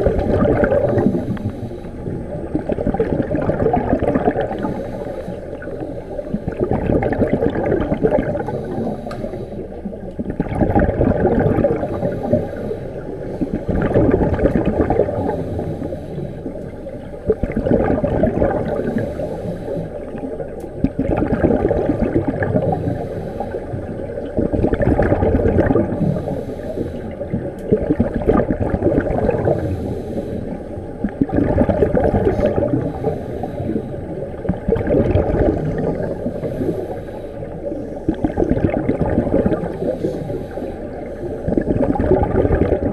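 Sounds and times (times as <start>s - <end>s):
underwater exhaust bubbles: 0.0s - 42.9s.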